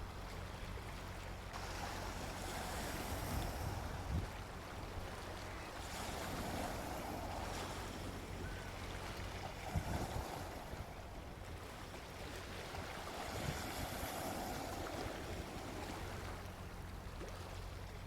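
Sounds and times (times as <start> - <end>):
sea waves washing on beach: 1.0 - 17.6.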